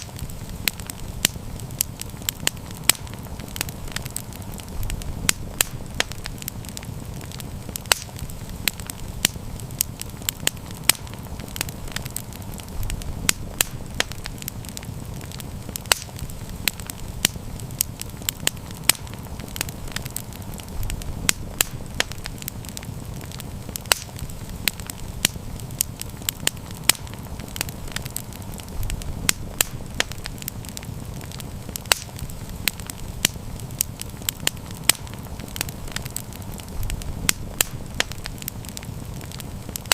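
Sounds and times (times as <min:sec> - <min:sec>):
campfire crackling and popping: 0:00.0 - 0:39.9
low steady rumble: 0:00.0 - 0:39.9.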